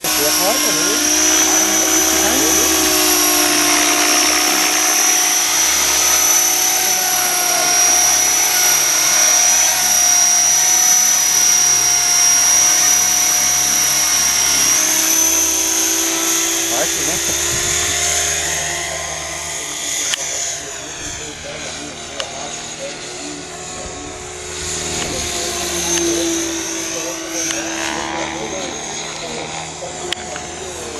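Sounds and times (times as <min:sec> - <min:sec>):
high-pitched motor whine: 0:00.0 - 0:30.9
rotor hum: 0:00.0 - 0:30.9.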